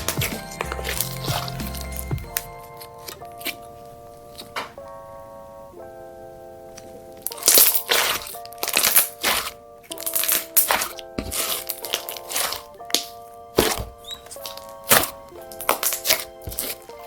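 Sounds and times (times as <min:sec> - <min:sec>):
gentle background music: 0:00.0 - 0:17.0.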